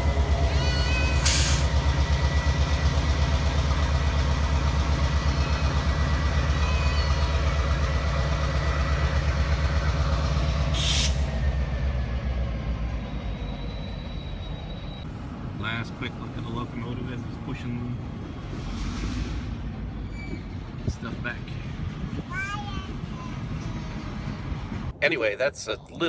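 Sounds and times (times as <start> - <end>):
diesel locomotive engine rumbling: 0.0 - 25.8.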